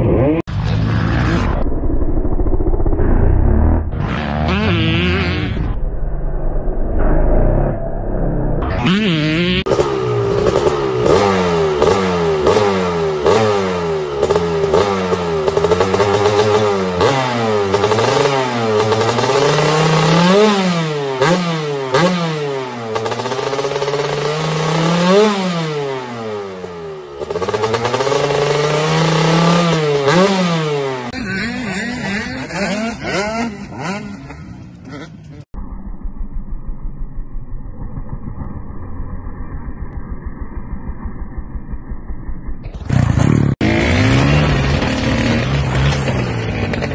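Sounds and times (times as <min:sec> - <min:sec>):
dirt bike engine revving: 0:00.0 - 0:05.8, 0:08.6 - 0:35.5, 0:40.5 - 0:46.9
quieter bike engine: 0:00.0 - 0:46.9.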